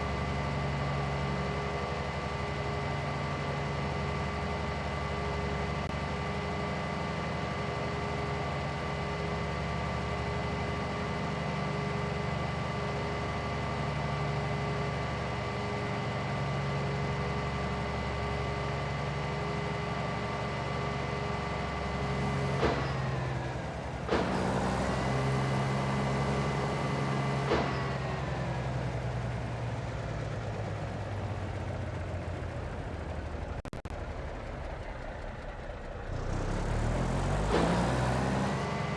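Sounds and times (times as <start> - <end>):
truck engine rumble: 0.0 - 38.9.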